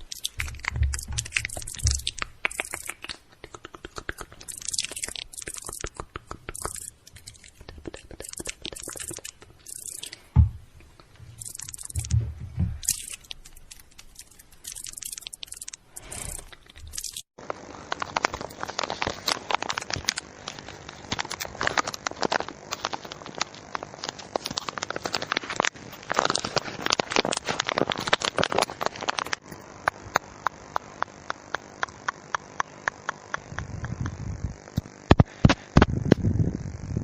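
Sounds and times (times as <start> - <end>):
crackling and clicking: 0.0 - 36.3.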